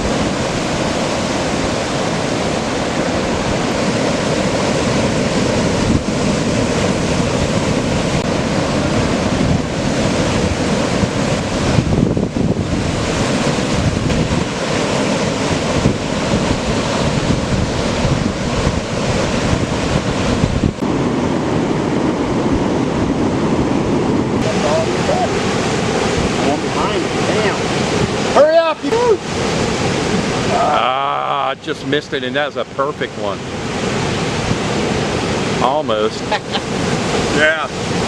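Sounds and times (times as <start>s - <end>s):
ocean surf breaking: 0.0s - 38.0s
wind gusting on microphone: 0.0s - 38.0s.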